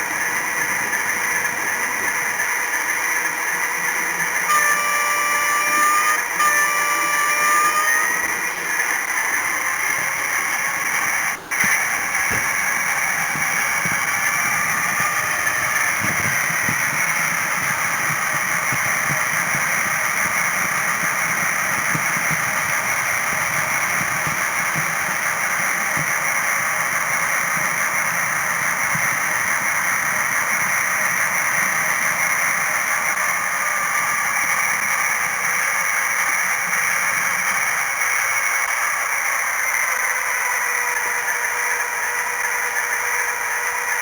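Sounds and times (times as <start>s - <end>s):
model train running: 0.0s - 44.0s.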